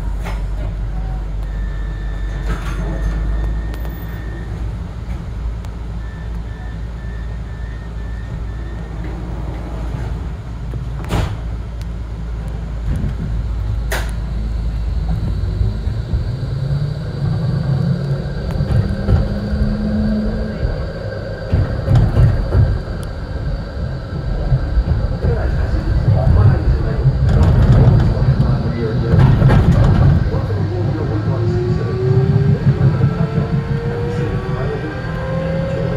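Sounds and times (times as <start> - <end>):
tram motor hum and whine: 0.0 - 35.9
wheels rumbling on track: 0.0 - 35.9.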